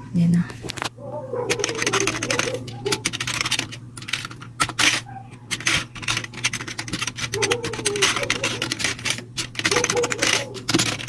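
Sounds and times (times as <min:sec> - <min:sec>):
mechanical keyboard typing: 0:01.4 - 0:11.0.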